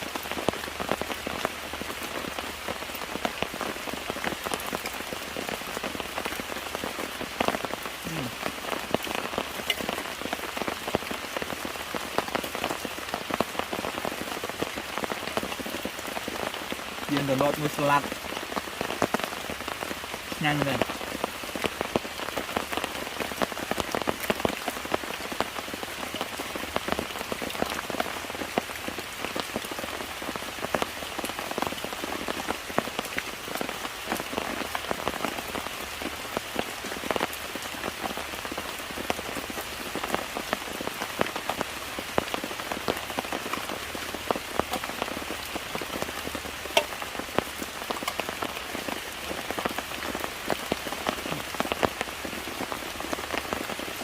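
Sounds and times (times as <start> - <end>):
raindrops ticking on surface: 0.0 - 54.0
steady rain: 0.0 - 54.0.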